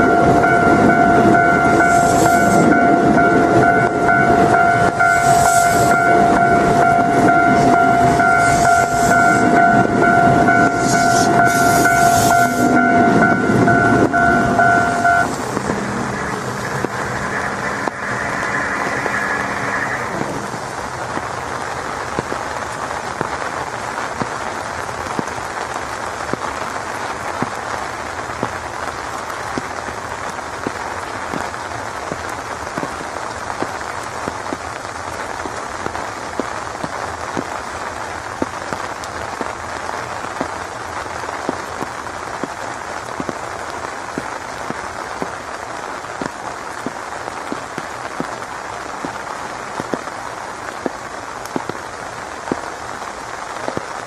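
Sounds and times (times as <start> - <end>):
raindrops ticking on a surface: 0.0 - 54.0
steady rain falling: 0.0 - 54.0.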